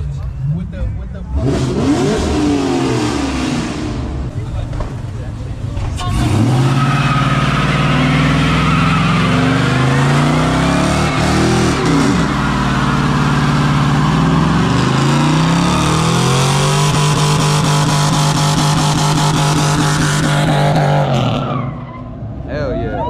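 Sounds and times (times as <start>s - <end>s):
car engine revving: 0.0s - 22.4s.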